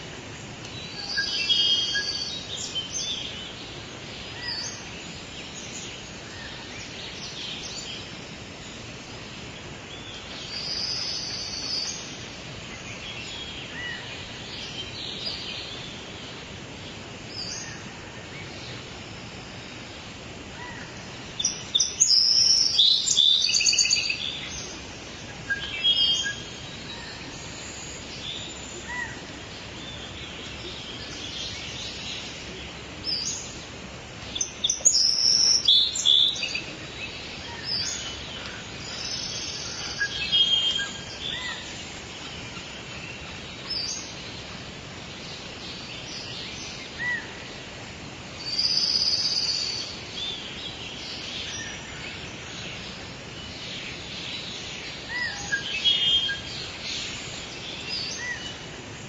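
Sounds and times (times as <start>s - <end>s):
steady background hiss: 0.0s - 59.0s
birds chirping and trilling: 0.2s - 59.0s.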